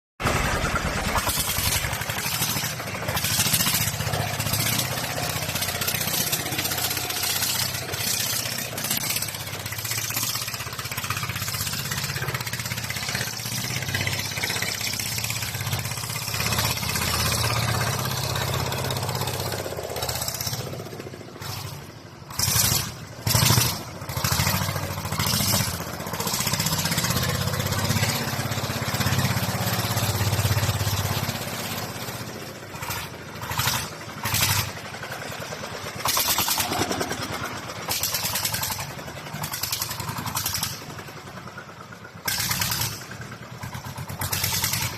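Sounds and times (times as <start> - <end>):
tractor engine running: 0.2 - 44.9.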